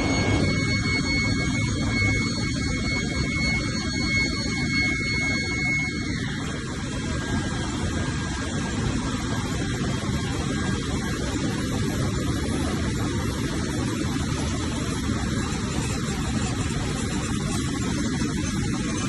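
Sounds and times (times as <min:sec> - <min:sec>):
machine mechanical drone: 0:00.0 - 0:19.0
thin high whine: 0:00.0 - 0:19.0.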